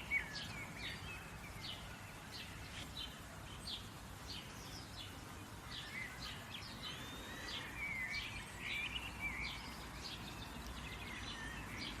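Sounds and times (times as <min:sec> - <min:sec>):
songbirds chirping and singing: 0:00.0 - 0:12.0
steady background hiss: 0:00.0 - 0:12.0.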